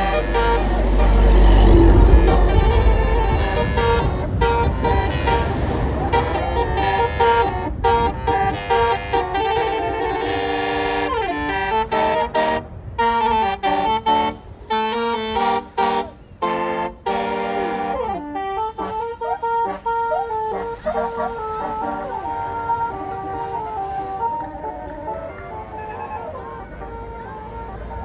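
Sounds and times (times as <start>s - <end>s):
bus engine rumble: 0.0s - 28.0s
bus horn playing a melody: 0.0s - 28.0s.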